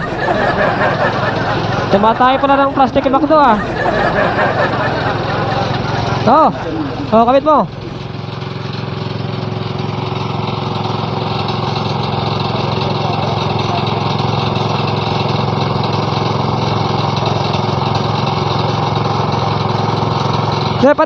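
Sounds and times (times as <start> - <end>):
small petrol engine running: 0.0 - 21.0.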